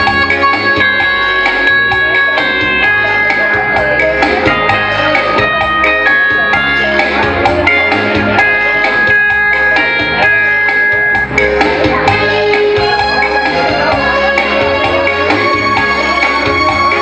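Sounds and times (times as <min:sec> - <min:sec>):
drum machine beat: 0:00.0 - 0:17.0
electronic keyboard playing: 0:00.0 - 0:17.0.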